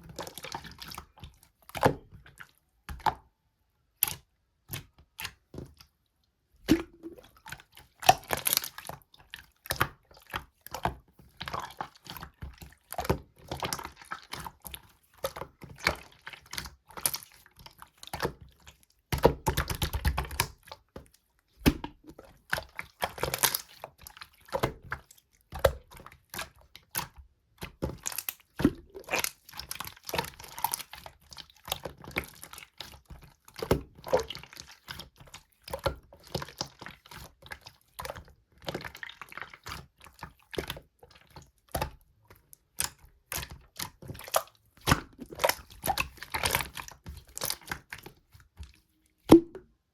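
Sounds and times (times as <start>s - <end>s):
slime squishing by hand: 0.0s - 3.2s, 3.9s - 49.9s.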